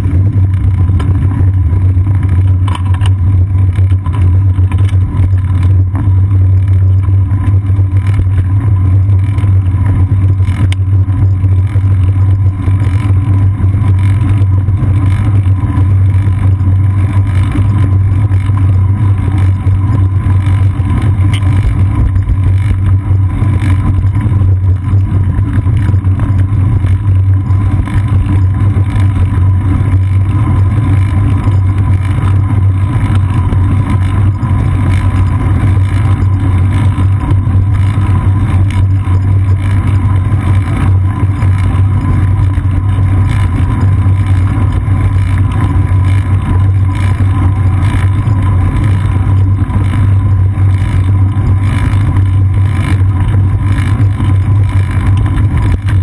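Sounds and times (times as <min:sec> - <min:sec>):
road vibration rumble: 0:00.0 - 0:56.0
wind: 0:00.0 - 0:56.0.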